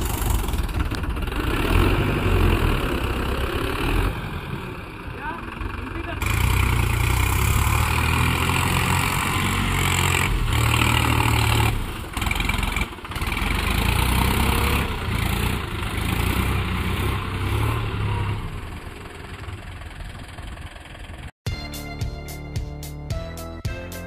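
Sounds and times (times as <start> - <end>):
tractor diesel engine running: 0.0 - 23.6.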